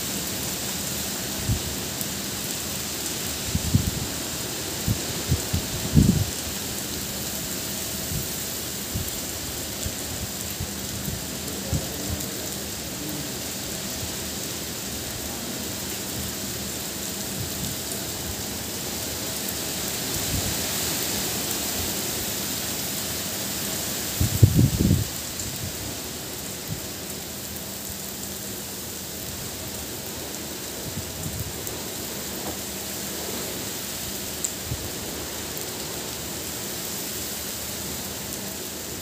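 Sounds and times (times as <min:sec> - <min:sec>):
heavy rain on paving and foliage: 0:00.0 - 0:39.0.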